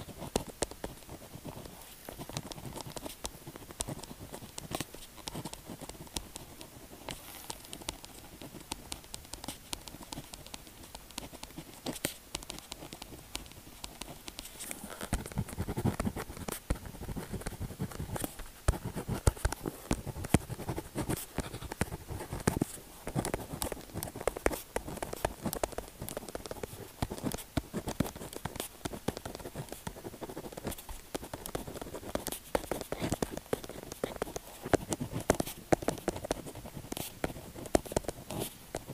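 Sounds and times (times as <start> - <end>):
pen scratching and tapping on paper: 0.0 - 38.9.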